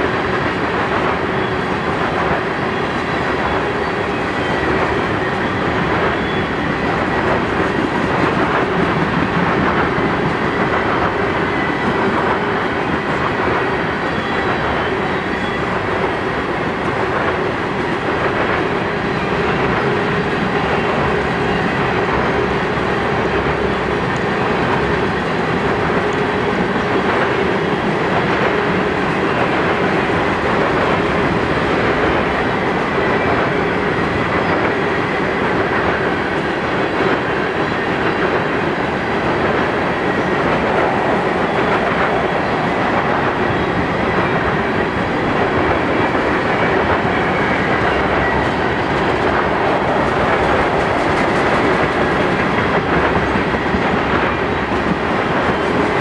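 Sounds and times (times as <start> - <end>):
steel train wheels rumbling on rails: 0.0 - 56.0.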